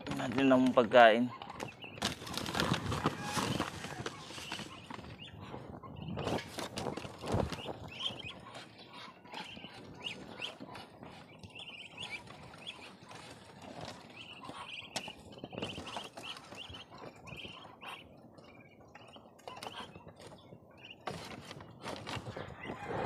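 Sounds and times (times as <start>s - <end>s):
rustling and knocks of feed: 0.0s - 5.3s, 6.2s - 22.5s
ducklings peeping: 0.0s - 23.0s.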